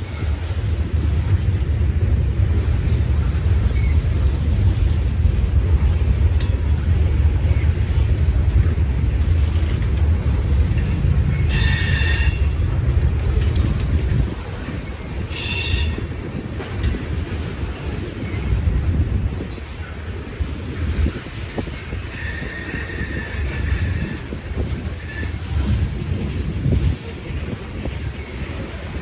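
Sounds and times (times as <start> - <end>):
train rumbling by: 0.0 - 29.0
steel wheels squealing on rail: 3.1 - 4.9, 6.4 - 29.0.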